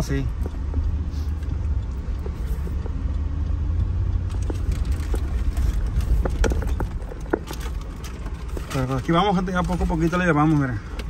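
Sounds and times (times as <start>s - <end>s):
light knocks and rattles: 0.0s - 3.0s, 4.2s - 11.0s
engine and tyres rumbling: 0.0s - 11.0s.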